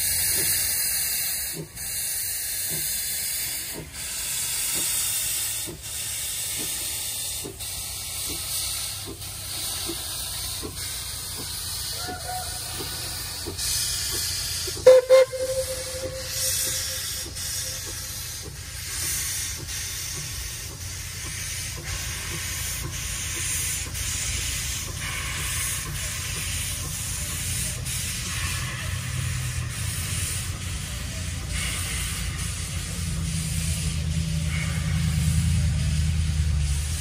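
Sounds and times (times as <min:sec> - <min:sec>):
low rumble of moving train: 0:00.0 - 0:37.0
steam hissing: 0:00.0 - 0:37.0
steam locomotive chuffing: 0:00.0 - 0:37.0.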